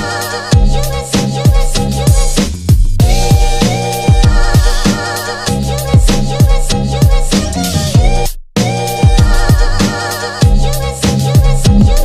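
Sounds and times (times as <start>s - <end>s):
music with deep kick drums: 0.5s - 4.9s, 5.8s - 7.3s, 8.0s - 12.0s.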